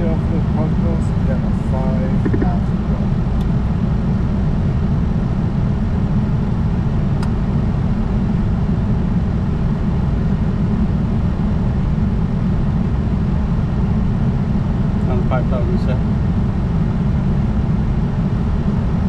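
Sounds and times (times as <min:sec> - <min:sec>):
jet cockpit roar: 0:00.0 - 0:19.0.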